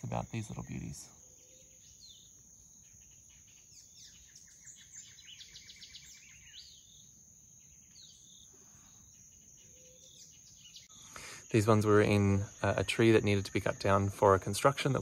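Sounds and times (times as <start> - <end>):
bird trilling and calling: 0.0 - 8.5, 9.1 - 13.5.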